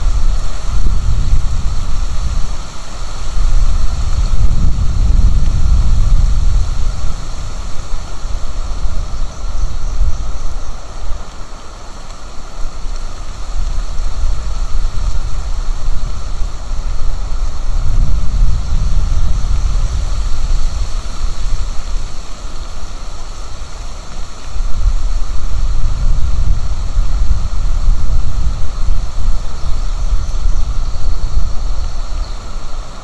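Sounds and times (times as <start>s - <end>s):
steady hiss: 0.0s - 33.0s
wind buffeting microphone: 0.0s - 33.0s.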